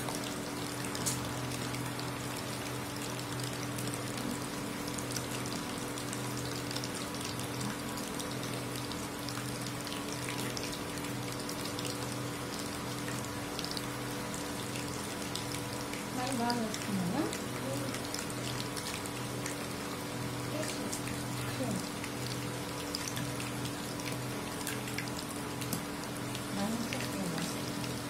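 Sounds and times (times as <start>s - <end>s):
deep-frying sizzle and crackling: 0.0s - 28.0s
steady hum: 0.0s - 28.0s.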